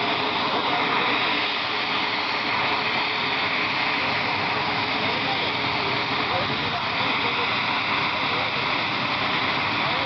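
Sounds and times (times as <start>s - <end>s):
helicopter engines and rotor: 0.0s - 10.0s.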